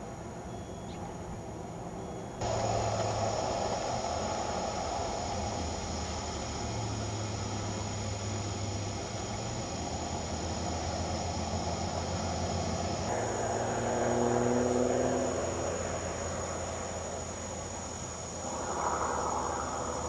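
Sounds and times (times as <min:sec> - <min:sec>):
background hiss: 0:00.0 - 0:20.0
distant engine drone: 0:00.0 - 0:20.0
higher droning engine tone: 0:02.4 - 0:20.0.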